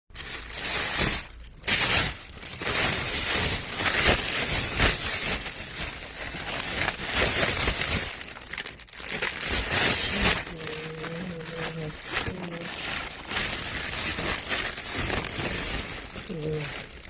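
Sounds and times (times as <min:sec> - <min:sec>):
plastic packaging crinkling: 0:00.1 - 0:17.0.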